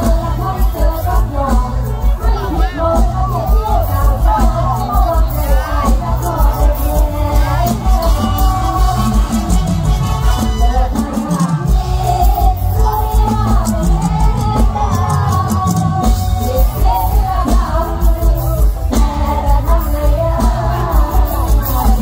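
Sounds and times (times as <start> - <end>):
driving drum beat: 0.0 - 22.0
woman singing into microphone: 0.0 - 22.0.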